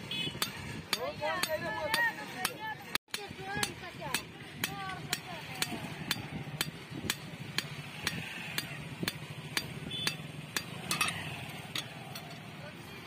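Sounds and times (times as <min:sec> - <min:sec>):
hammer striking chisel on anvil: 0:00.4 - 0:12.4.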